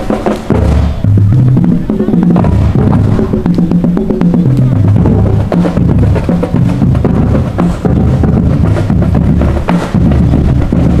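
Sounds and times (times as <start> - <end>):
drums striking steadily: 0.0 - 11.0
marching band playing: 0.0 - 11.0.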